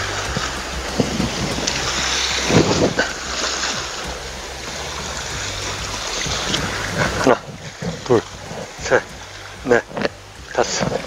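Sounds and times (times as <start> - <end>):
sea waves breaking on rocks: 0.0 - 11.0
wind on microphone: 0.0 - 11.0.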